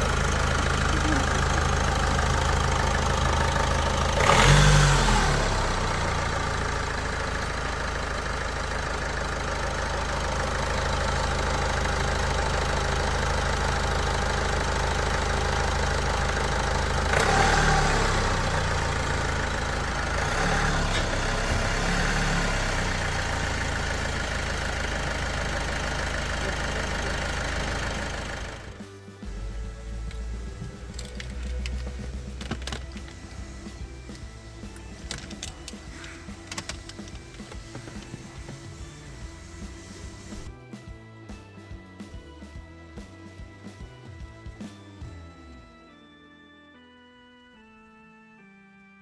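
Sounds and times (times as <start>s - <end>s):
diesel engine idling: 0.0s - 40.6s.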